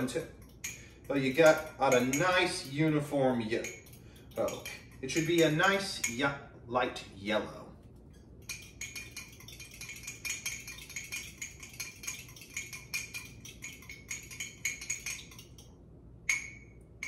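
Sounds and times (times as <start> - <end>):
metal utensil clinking against mug: 0.0 - 6.3, 8.1 - 15.7.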